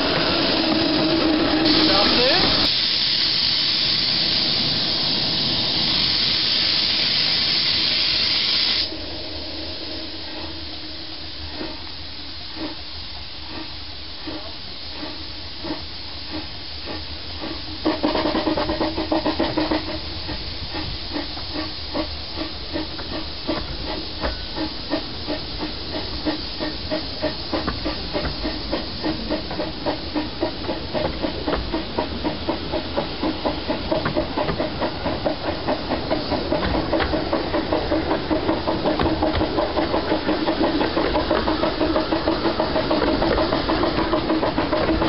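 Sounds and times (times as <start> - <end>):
steam hissing: 0.0 - 45.0
steam locomotive exhaust beats: 0.0 - 45.0.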